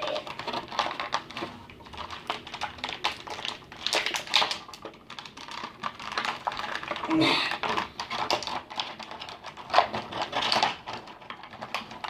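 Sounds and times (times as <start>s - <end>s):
plastic and cardboard crackling: 0.0s - 12.0s.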